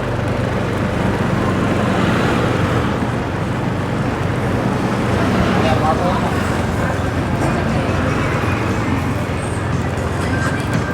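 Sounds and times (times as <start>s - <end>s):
road and traffic noise: 0.0s - 10.9s.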